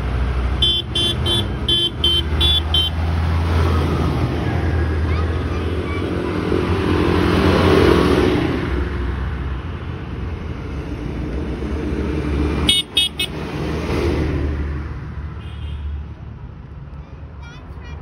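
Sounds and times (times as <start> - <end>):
tractor diesel engine passing: 0.0 - 15.4.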